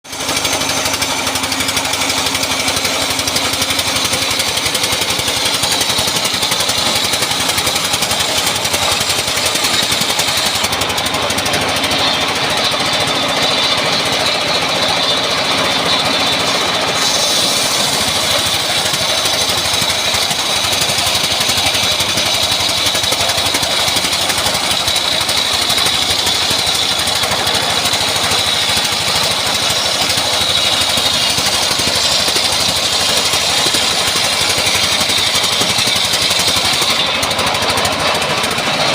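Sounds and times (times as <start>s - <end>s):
engine-driven saw cutting wood: 0.0s - 38.9s.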